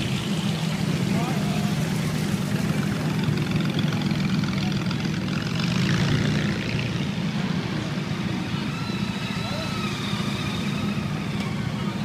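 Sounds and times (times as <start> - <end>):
car engines idling in traffic: 0.0 - 12.0.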